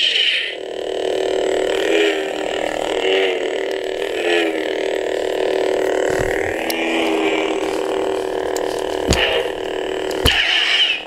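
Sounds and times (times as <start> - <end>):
lightsaber buzzing hum: 0.0 - 11.0.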